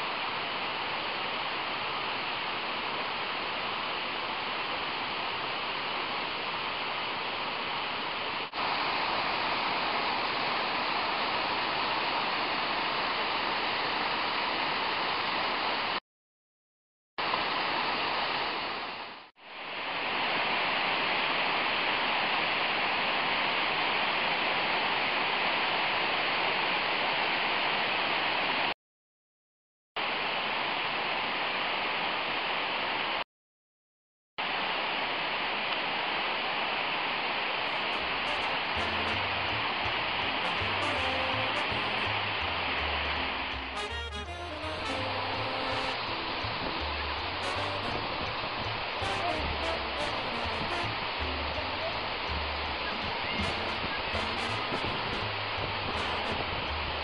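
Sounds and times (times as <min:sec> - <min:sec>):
waterfall rushing: 0:00.0 - 0:16.0, 0:17.2 - 0:28.7, 0:34.4 - 0:57.0.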